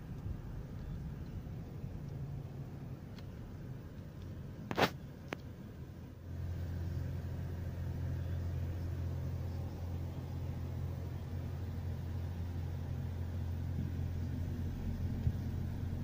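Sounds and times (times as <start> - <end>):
car cabin low rumble: 0.0 - 16.0.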